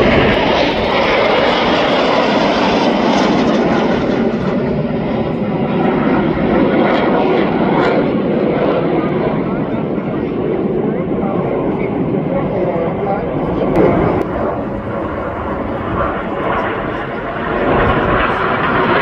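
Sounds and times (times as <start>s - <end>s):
aircraft engine rushing: 0.0s - 19.0s.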